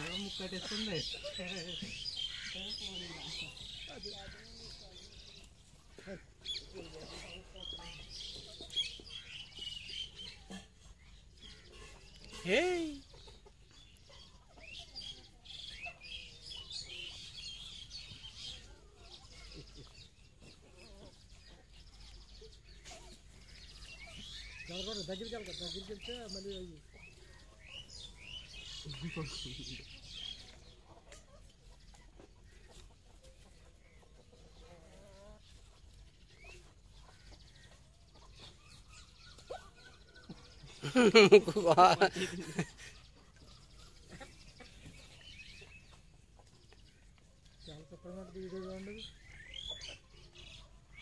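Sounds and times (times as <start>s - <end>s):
birds chirping: 0.0s - 51.0s
chickens clucking: 0.0s - 51.0s.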